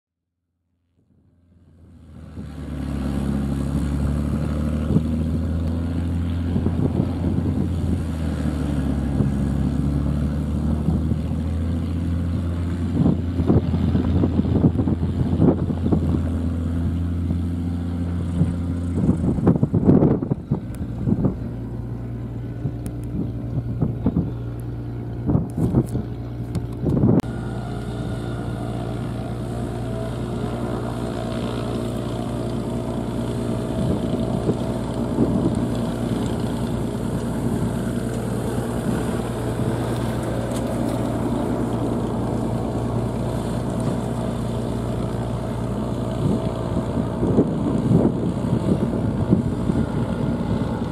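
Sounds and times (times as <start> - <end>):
deeper engine hum: 0.6 - 50.9
propeller engine running: 0.9 - 50.9
gusty wind on microphone: 2.2 - 50.9.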